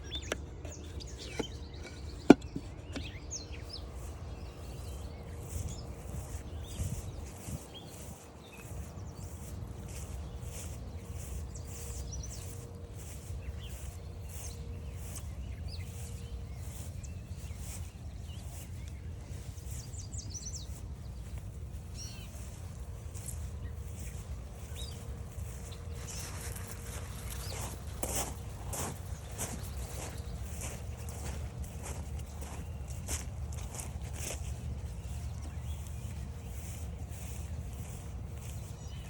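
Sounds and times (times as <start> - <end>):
footsteps on forest trail: 0.0 - 39.0
songbirds chirping: 0.0 - 39.0.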